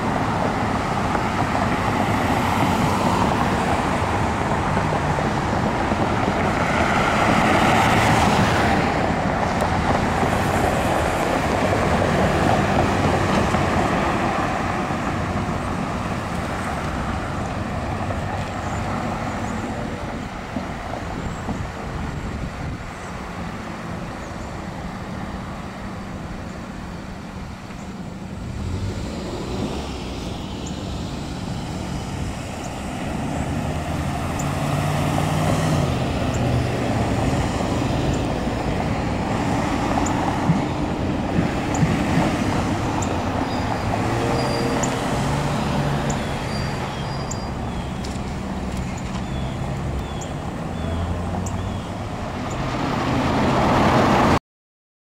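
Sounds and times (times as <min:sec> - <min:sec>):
cars passing: 0:00.0 - 0:54.4.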